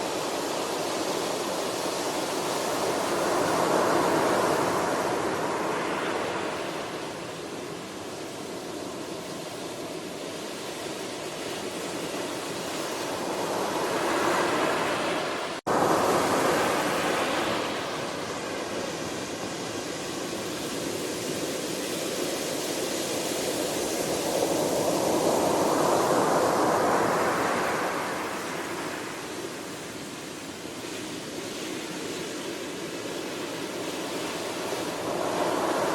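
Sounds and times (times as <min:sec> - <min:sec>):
ocean waves washing over shore: 0:00.0 - 0:35.9.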